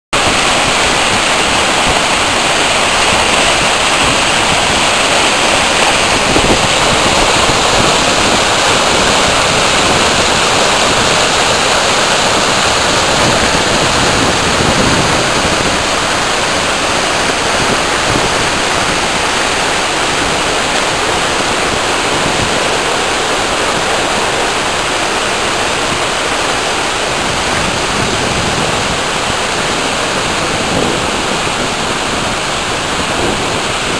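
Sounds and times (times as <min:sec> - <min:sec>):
floodwater rushing over dam: 0:00.2 - 0:33.9.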